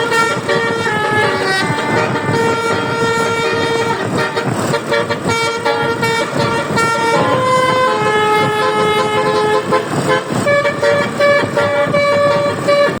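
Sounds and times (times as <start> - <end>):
multi-tone air horn tune: 0.0 - 13.0
road noise: 0.0 - 13.0.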